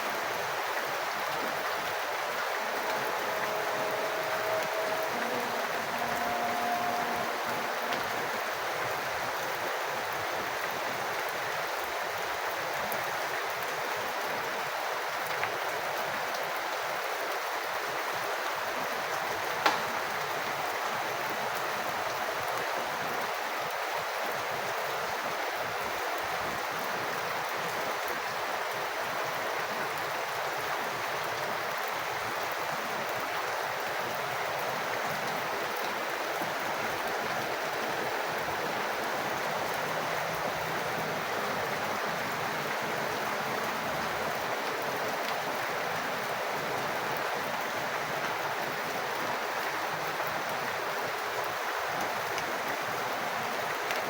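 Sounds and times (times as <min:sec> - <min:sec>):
rainwater splashing: 0:00.0 - 0:54.0.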